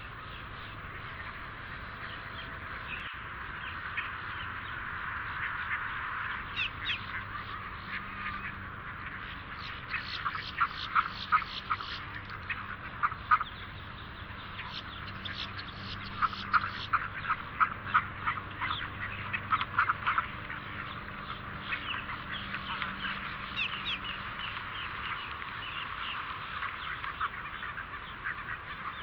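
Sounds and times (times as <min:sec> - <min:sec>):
ducks quacking: 0:00.0 - 0:29.0.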